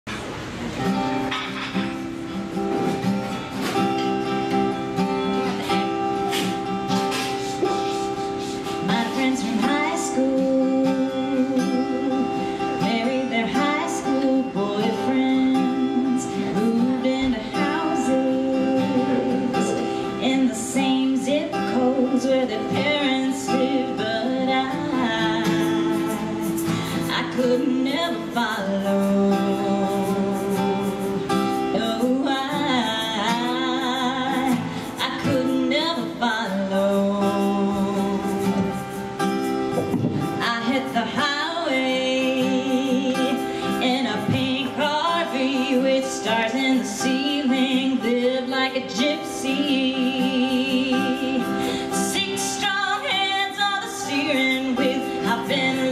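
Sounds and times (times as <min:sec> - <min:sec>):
strummed acoustic guitar: 0:00.1 - 0:55.9
woman singing: 0:04.6 - 0:39.3, 0:39.9 - 0:55.9.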